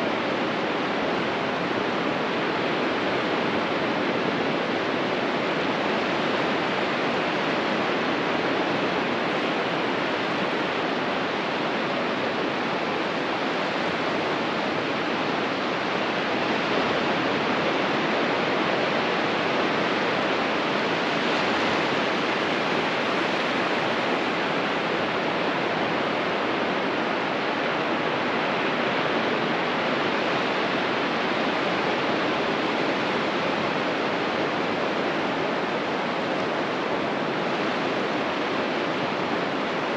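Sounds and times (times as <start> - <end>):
ocean surf rushing: 0.0 - 39.9.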